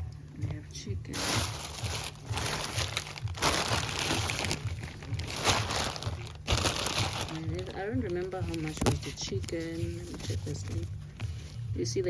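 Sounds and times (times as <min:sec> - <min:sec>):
plastic packaging crinkling: 0:01.1 - 0:11.4.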